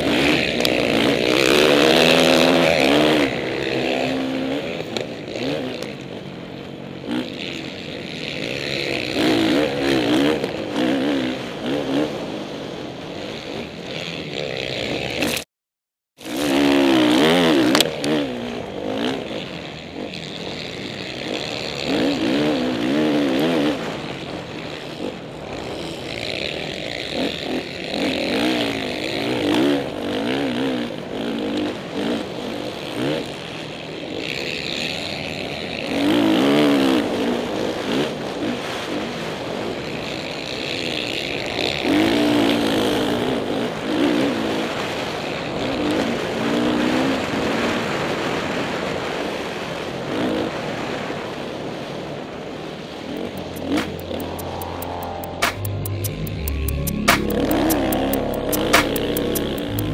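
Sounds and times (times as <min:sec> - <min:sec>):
dirt bike engines revving: 0:00.0 - 0:15.4, 0:16.2 - 0:49.0, 0:51.6 - 0:59.9.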